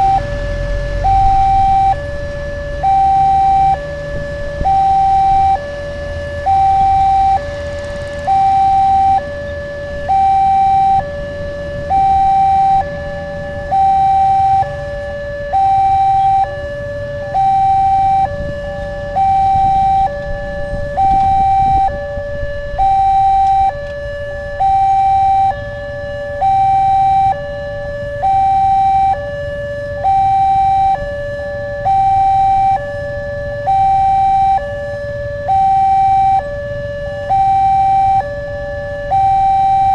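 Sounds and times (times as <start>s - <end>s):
level crossing two-tone warning: 0.0s - 39.9s.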